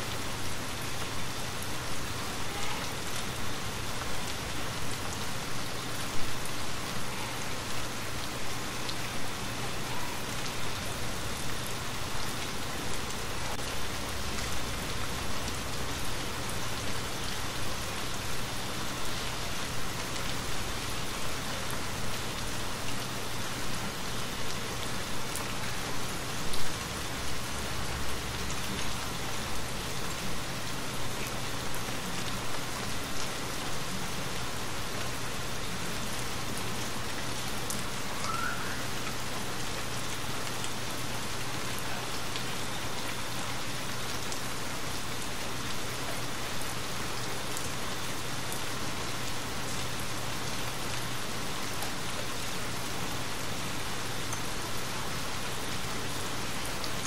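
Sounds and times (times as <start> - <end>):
rain on a wooden cabin: 0.0 - 57.0.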